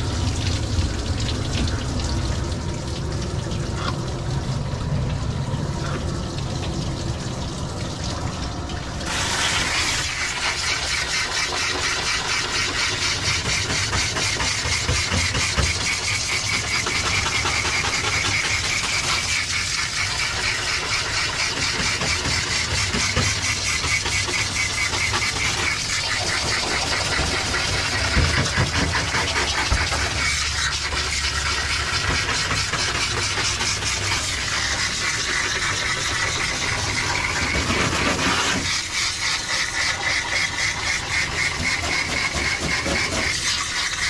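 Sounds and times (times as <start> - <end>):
hose spraying water: 0.0 - 44.0.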